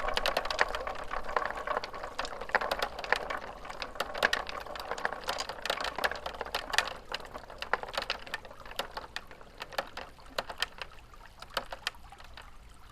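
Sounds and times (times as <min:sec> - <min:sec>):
marbles rolling and clicking on track: 0:00.0 - 0:12.5.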